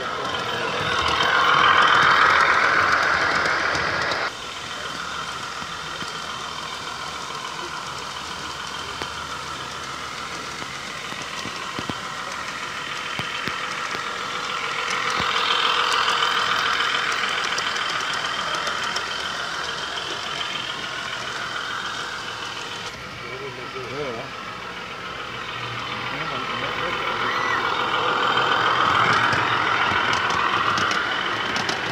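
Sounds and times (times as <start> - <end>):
model train motor whine: 0.0 - 31.9
wheels clicking on rails: 0.0 - 31.9.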